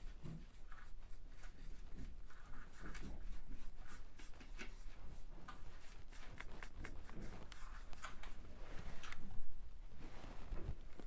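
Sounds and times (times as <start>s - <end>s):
paintbrush scratchy strokes: 0.0s - 9.4s.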